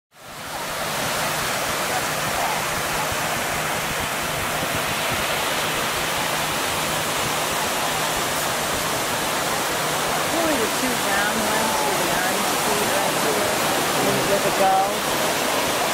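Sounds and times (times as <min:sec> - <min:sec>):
surf washing on beach: 0:00.1 - 0:15.9.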